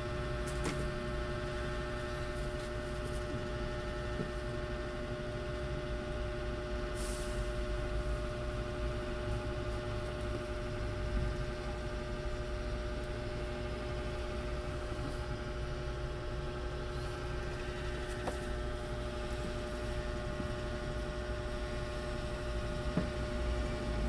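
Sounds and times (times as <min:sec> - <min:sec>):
machine hum with low rumble: 0:00.0 - 0:24.0.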